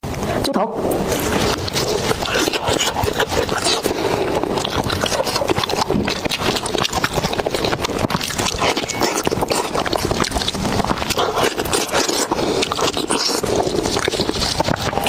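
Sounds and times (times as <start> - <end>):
person chewing and smacking: 1.0 - 15.0.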